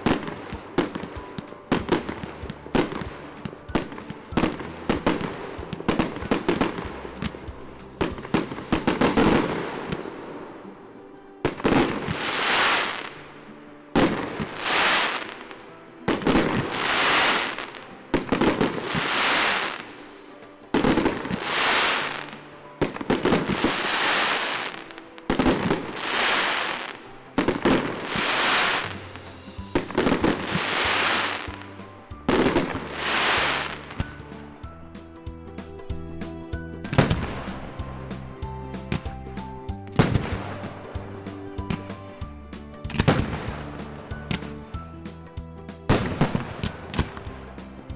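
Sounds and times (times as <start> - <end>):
fireworks cracking and hissing: 0.0 - 10.8, 11.4 - 47.9
faint music: 0.0 - 47.9.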